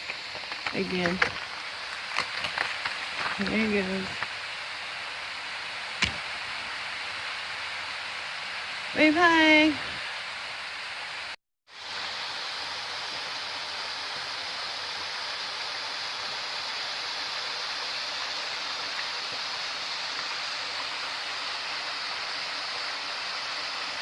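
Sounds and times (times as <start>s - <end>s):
rush of falling water: 0.0s - 24.0s.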